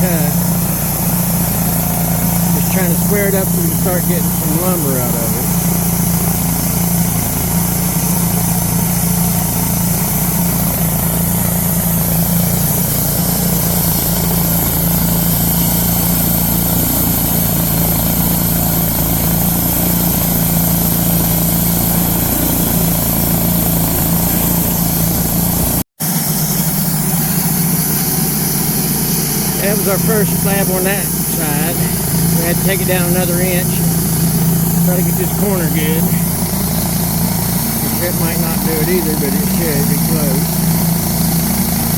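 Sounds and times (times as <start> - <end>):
band sawmill cutting log: 0.0 - 41.9.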